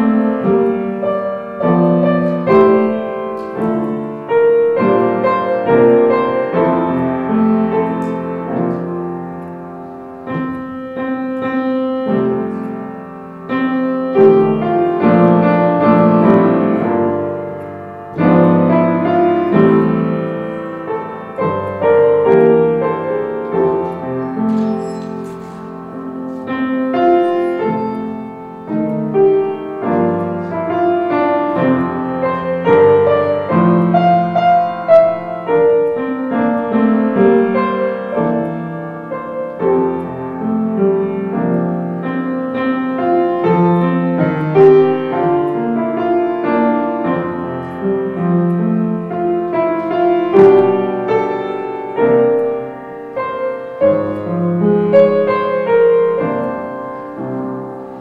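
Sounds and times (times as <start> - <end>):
solo piano playing: 0.0 - 58.0.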